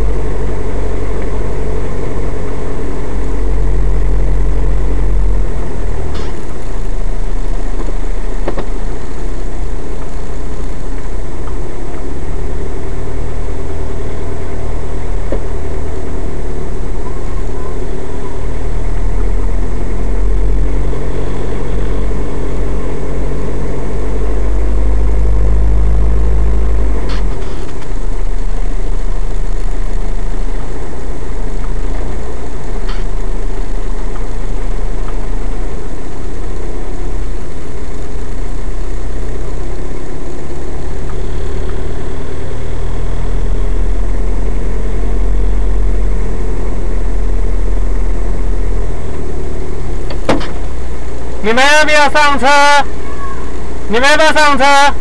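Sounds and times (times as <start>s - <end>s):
car engine low rumble: 0.0s - 55.0s.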